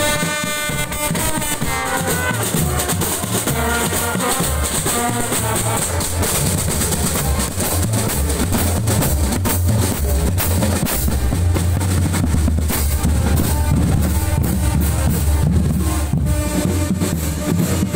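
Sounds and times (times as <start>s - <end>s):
bass drums beating: 0.0s - 17.9s
snare drums beating: 0.0s - 17.9s.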